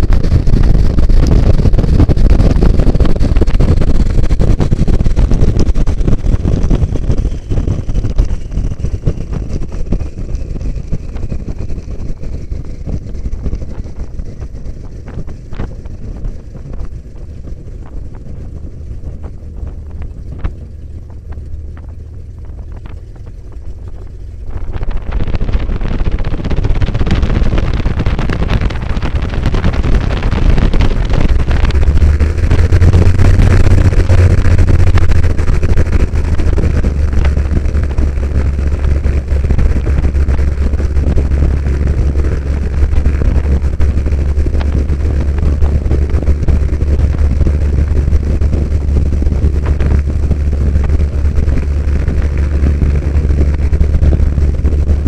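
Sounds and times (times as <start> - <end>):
propeller plane engine: 0.0 - 55.0
wind rushing: 0.0 - 55.0.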